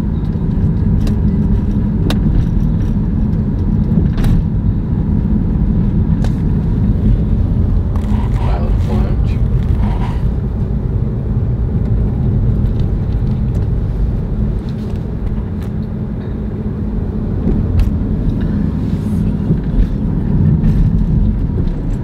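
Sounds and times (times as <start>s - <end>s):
car driving on tarmac rumble: 0.0s - 22.0s.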